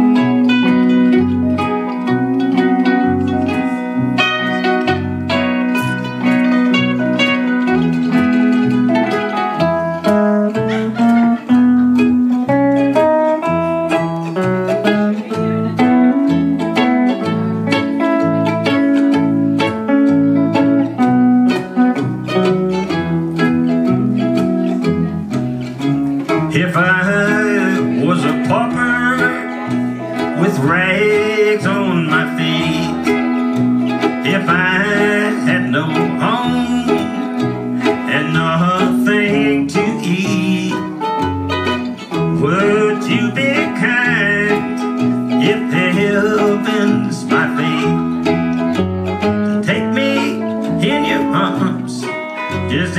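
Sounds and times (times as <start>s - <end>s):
electric guitar: 0.0s - 52.9s
mandolin: 0.0s - 52.9s
plucked upright bass: 0.0s - 52.9s.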